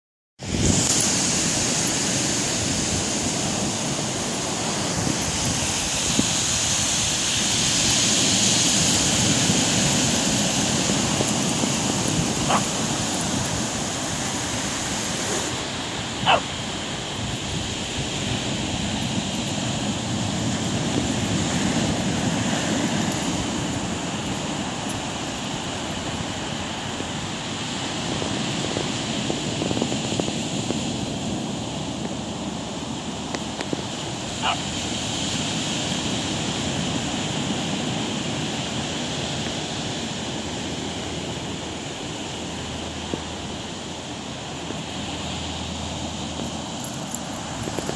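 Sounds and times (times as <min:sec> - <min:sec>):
ocean surf breaking: 0:00.4 - 0:47.9
wind on microphone: 0:00.4 - 0:47.9.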